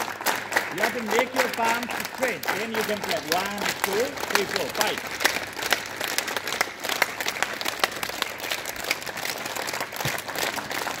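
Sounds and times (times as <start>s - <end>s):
children clapping: 0.0s - 11.0s.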